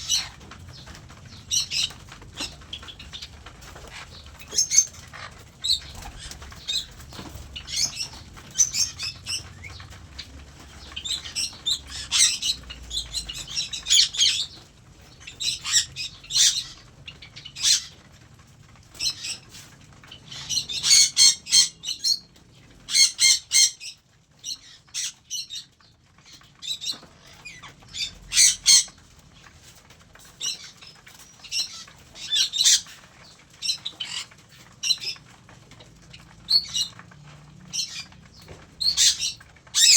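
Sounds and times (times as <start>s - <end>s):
cockatiels squawking and chirping: 0.0s - 39.9s.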